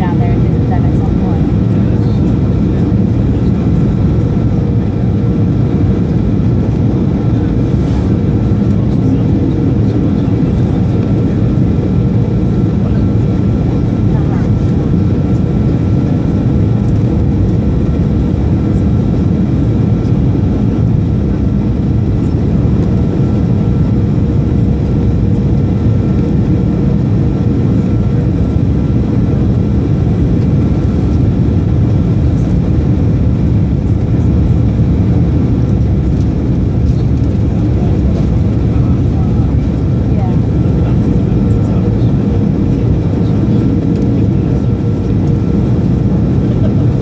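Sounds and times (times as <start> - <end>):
jet engine roar in cabin: 0.0 - 47.0.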